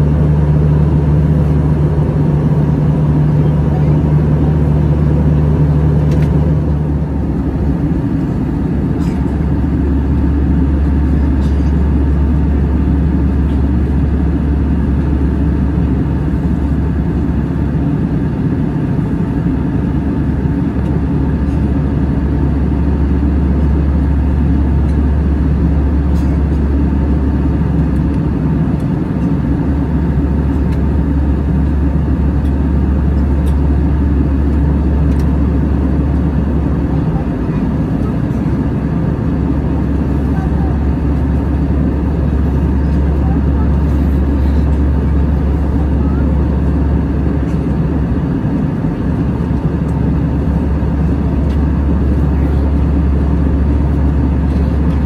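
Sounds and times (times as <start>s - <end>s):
airplane cabin engine hum: 0.0s - 55.0s.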